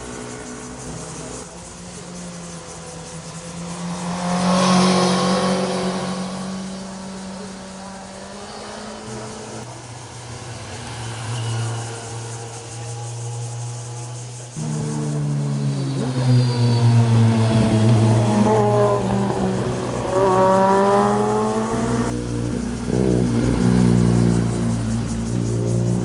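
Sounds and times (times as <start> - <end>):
motorcycles revving past: 0.0 - 26.0.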